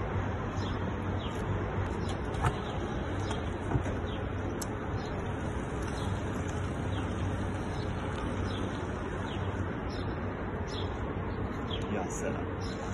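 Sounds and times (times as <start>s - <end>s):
steady hum and hiss: 0.0s - 12.9s
small birds chirping: 0.4s - 12.9s.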